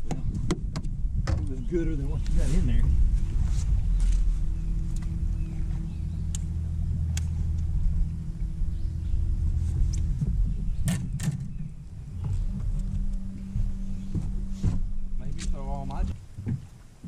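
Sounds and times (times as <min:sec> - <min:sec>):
electric trolling motor droning: 0:00.0 - 0:17.0.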